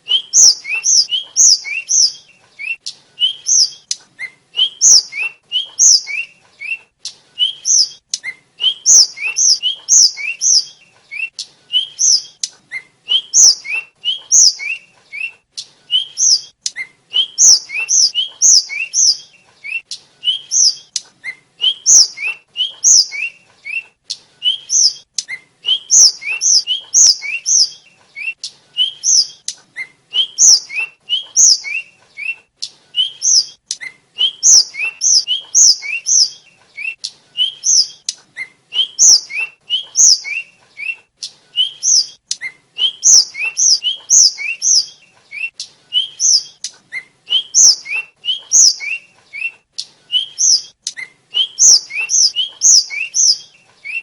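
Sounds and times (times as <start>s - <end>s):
flycatcher singing whistled notes: 0.1s - 6.8s, 7.4s - 21.0s, 21.6s - 29.4s, 30.2s - 32.4s, 33.0s - 38.0s, 38.7s - 41.0s, 41.6s - 46.6s, 47.3s - 54.0s.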